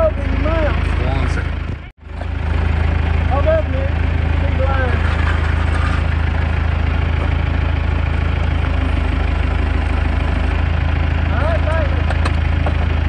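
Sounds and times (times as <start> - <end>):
forklift engine idling: 0.0 - 13.0.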